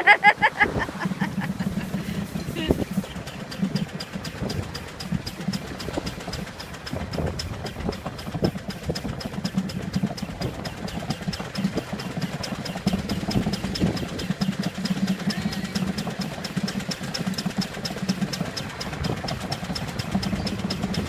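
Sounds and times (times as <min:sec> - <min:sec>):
low steady running noise: 0:00.0 - 0:21.0
steam engine ticking: 0:00.0 - 0:21.0.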